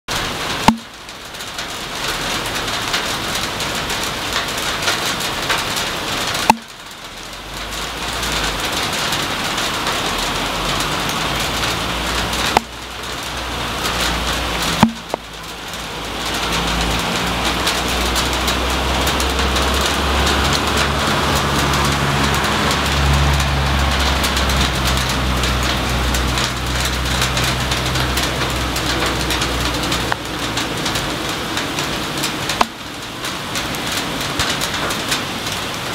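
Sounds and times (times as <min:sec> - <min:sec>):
hailstones pattering: 0:00.1 - 0:35.9.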